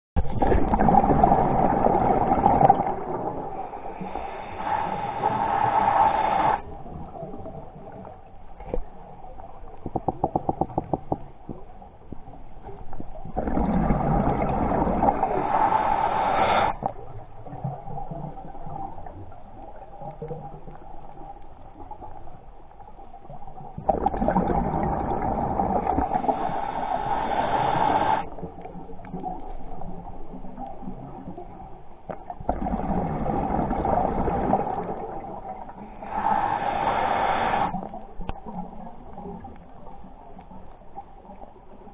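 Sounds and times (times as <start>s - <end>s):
underwater bubbling: 0.2s - 41.9s.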